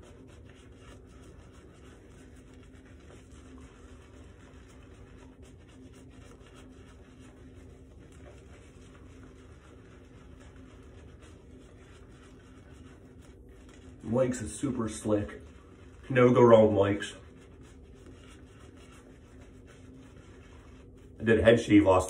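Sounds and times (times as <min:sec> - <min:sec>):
shaving brush swishing on skin: 0:00.0 - 0:22.0.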